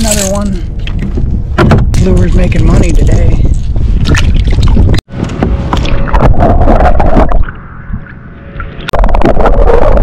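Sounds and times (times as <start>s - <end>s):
heavy low rumble: 0.0s - 10.0s
water sloshing and gurgling: 0.0s - 10.0s.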